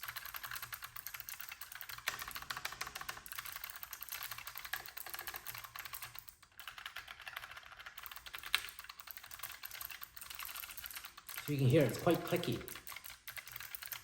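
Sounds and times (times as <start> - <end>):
clicky keyboard typing: 0.0 - 14.0.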